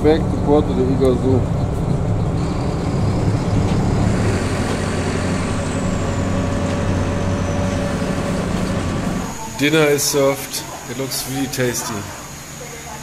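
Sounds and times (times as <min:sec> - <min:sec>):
bus engine running: 0:00.0 - 0:12.6
road noise: 0:00.0 - 0:13.0.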